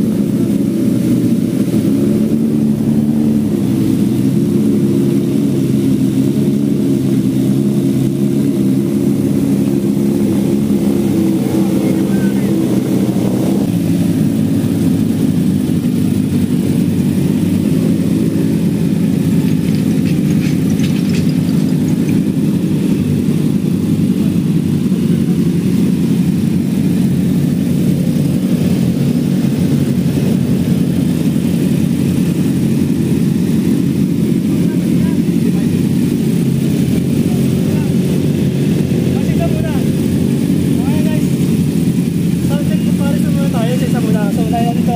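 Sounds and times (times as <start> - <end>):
motorbike engines idling: 0.0 - 44.9.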